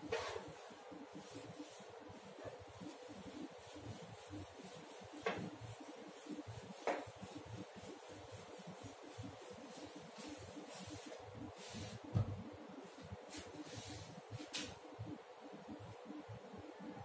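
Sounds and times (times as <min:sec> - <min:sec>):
duster rubbing on whiteboard: 0:00.0 - 0:14.8.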